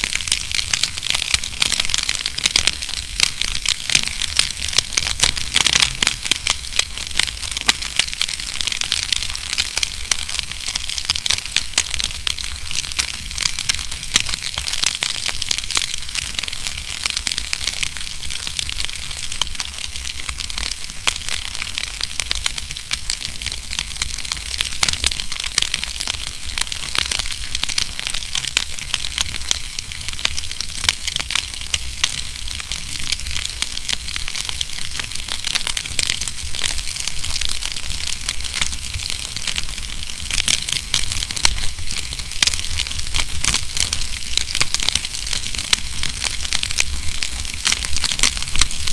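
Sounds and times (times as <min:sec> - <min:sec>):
fire low rumble: 0:00.0 - 0:48.9
wood fire crackling and popping: 0:00.0 - 0:48.9.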